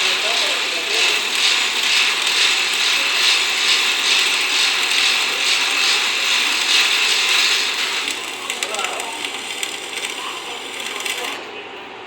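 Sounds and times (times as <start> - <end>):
arc welding: 0.0 - 11.5.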